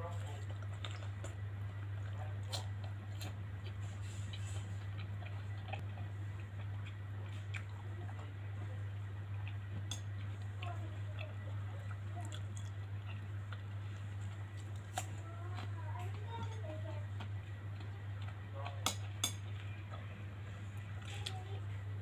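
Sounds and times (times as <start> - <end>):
chewing and mouth sounds: 0.0 - 22.0.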